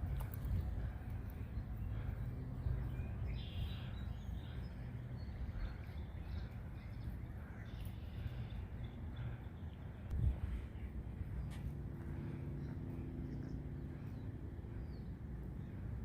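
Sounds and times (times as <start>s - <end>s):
faint bird calls: 0.0s - 16.0s
low outdoor rumble: 0.0s - 16.0s.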